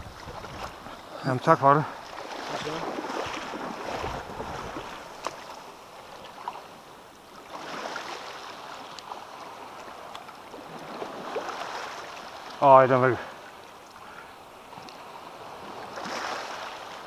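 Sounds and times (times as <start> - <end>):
shallow water sloshing: 0.0 - 17.0.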